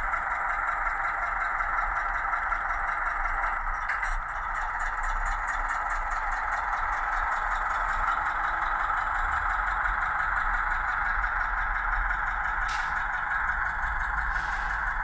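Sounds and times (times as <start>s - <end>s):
model train motor and wheels: 0.0s - 15.0s
recorded diesel engine chugging: 0.0s - 15.0s.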